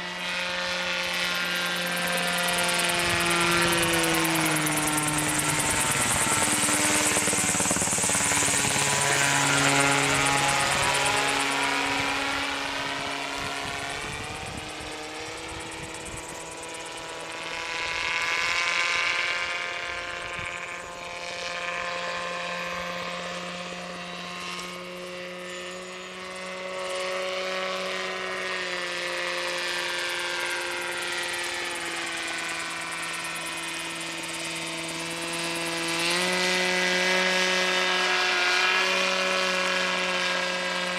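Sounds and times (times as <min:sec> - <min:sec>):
model aircraft engine and propeller: 0:00.0 - 0:40.9.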